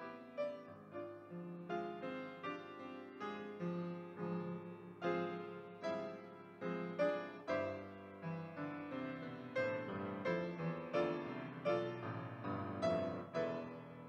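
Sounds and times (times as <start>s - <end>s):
slow gentle piano piece: 0.0s - 14.0s.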